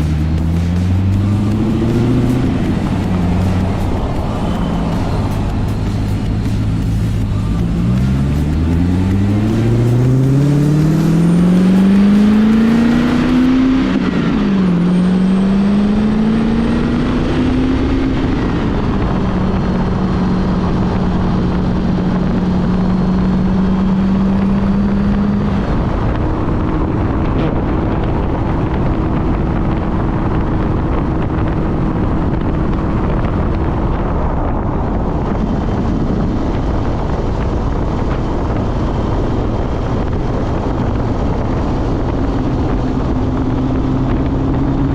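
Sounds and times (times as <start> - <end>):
car engine pulling hard: 0.0 - 44.9
road and wind noise: 0.0 - 44.9.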